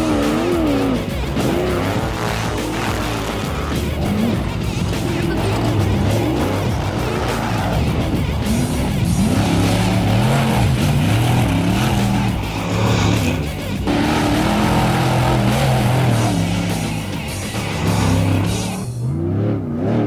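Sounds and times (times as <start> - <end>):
music playing: 0.0 - 19.2
race vehicle engine revving: 0.0 - 20.0.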